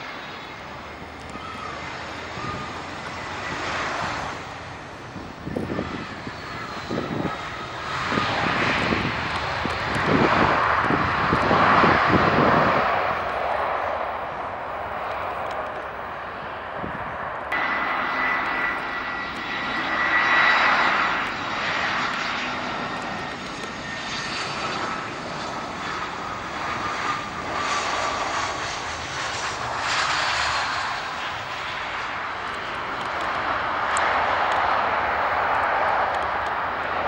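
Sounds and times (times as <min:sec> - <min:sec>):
jet engines with falling whine: 0:00.0 - 0:37.0.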